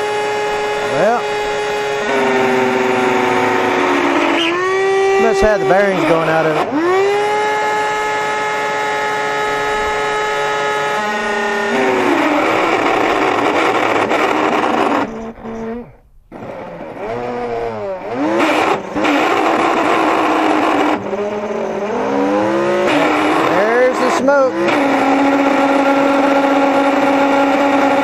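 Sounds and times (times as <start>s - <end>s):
vacuum motor screaming whine: 0.0s - 28.0s.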